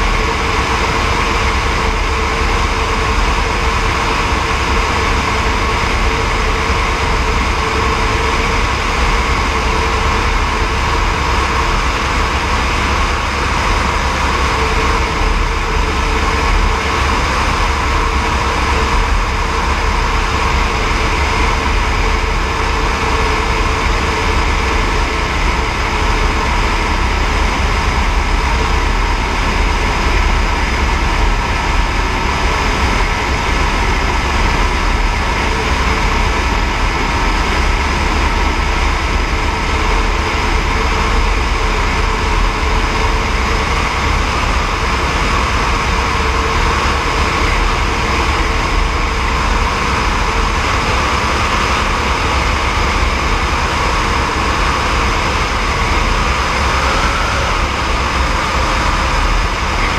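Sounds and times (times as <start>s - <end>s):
helicopter rotor beat: 0.0s - 59.9s
helicopter turbine whining: 0.0s - 59.9s
rushing air: 0.0s - 59.9s.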